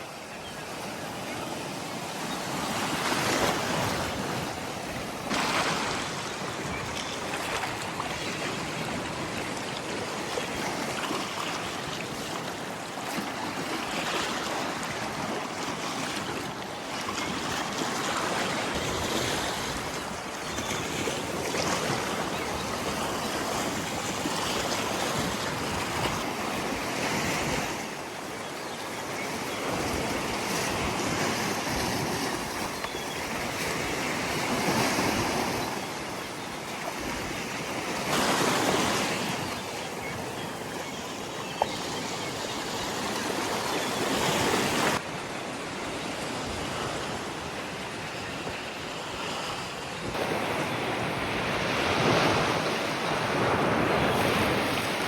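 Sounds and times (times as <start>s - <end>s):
sea waves breaking: 0.0s - 55.0s
wind: 0.0s - 55.0s.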